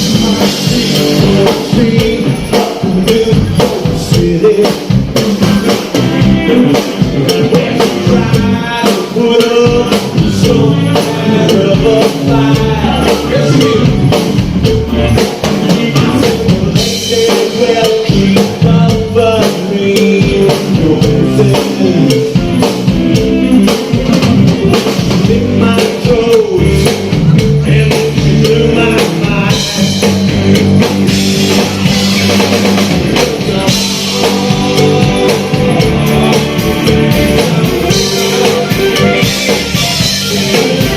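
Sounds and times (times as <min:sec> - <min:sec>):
person singing: 0:00.0 - 0:40.9
rock band playing: 0:00.0 - 0:40.9.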